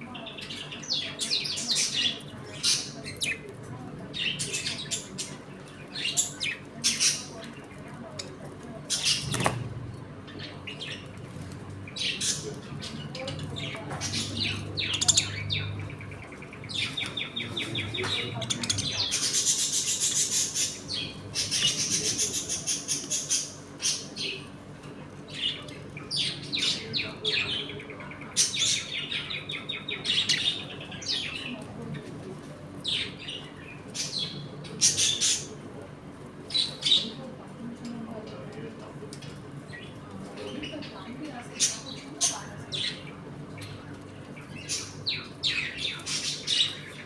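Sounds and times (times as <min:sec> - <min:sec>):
budgerigars chirping and warbling: 0:00.1 - 0:24.5, 0:25.2 - 0:32.0, 0:32.6 - 0:35.8, 0:36.5 - 0:37.2, 0:39.2 - 0:47.0.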